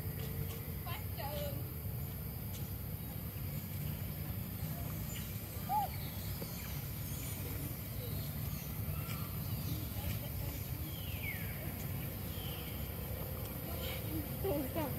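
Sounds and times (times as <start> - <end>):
low outdoor rumble: 0.0 - 14.9.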